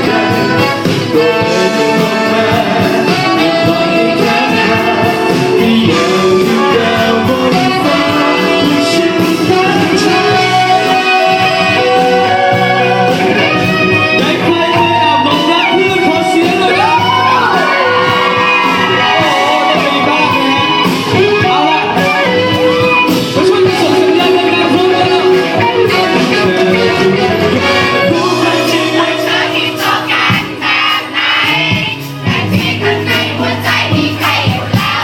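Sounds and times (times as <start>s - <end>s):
person singing: 0.0s - 30.6s
guitar: 0.0s - 35.0s
live band playing pop song: 0.0s - 35.0s.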